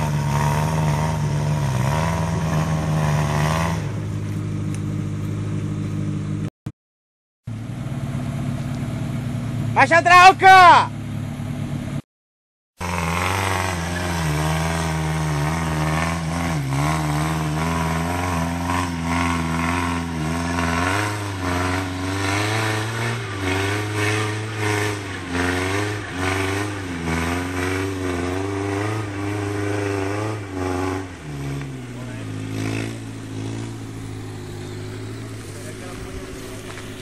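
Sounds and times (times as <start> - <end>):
off-road vehicle engine running: 0.0 - 6.5, 7.4 - 12.0, 12.8 - 37.0.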